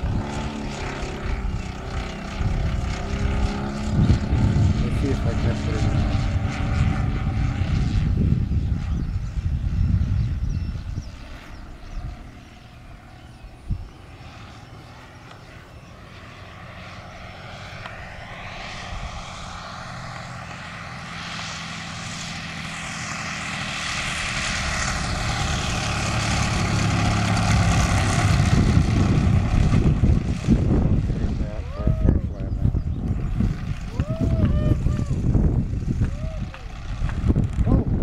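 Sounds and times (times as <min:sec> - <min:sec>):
model plane engine and propeller: 0:00.0 - 0:38.0.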